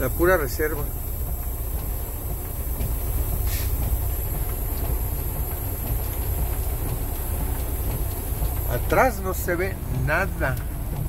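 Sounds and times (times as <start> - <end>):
diesel engine idling: 0.0 - 11.0
heavy rain on truck: 0.0 - 11.0.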